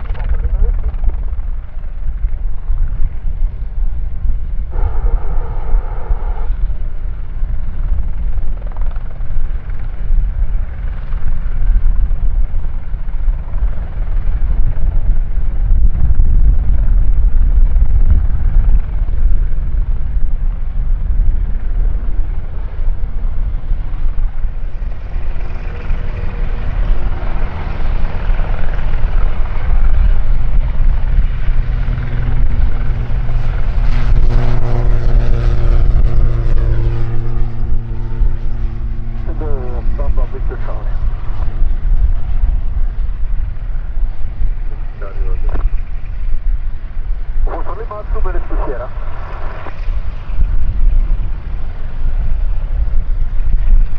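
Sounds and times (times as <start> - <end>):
helicopter rotor and turbine: 0.0 - 53.9
steady droning tone: 0.0 - 53.9.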